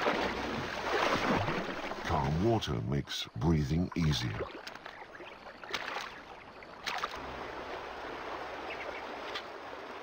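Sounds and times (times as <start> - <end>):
water splashing and sloshing: 0.0 - 2.9, 3.5 - 10.0.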